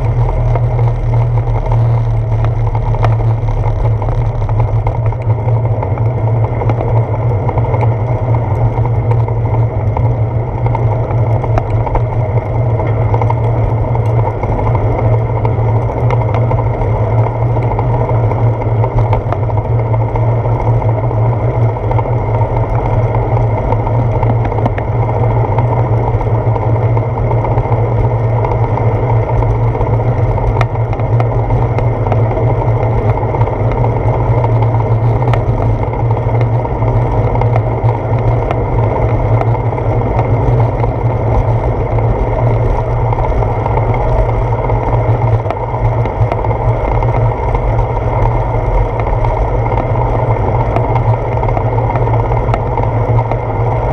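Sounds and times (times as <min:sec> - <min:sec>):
wind buffeting and road rumble: 0:00.0 - 0:53.9.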